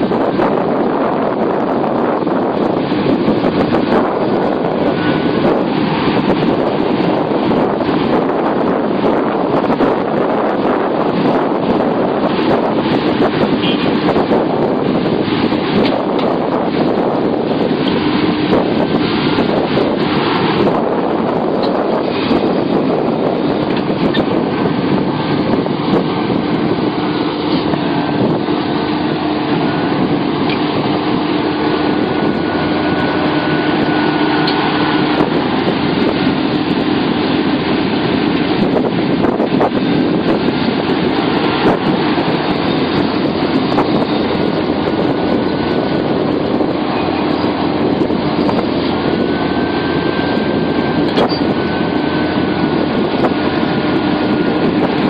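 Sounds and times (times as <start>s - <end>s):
excavator diesel engine running: 0.0s - 55.0s
hydraulic whine: 0.0s - 55.0s.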